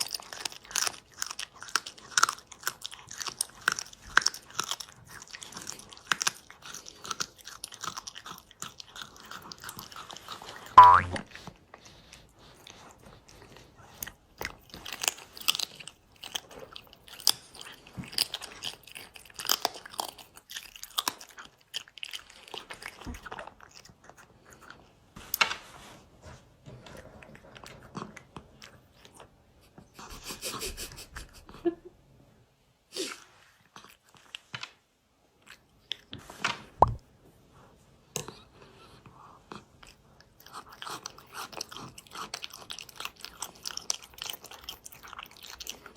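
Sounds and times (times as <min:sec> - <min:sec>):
cat chewing food: 0:00.0 - 0:25.1, 0:26.6 - 0:30.5, 0:37.6 - 0:45.9.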